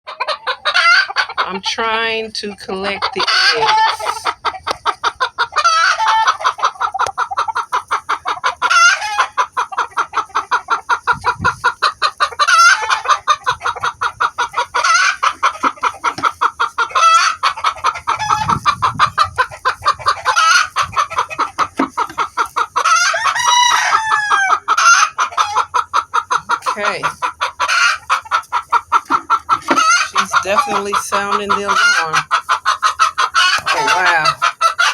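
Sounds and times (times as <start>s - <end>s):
hen squawking: 0.1s - 21.6s, 22.2s - 34.9s
hen clucking alarm call: 0.1s - 34.9s.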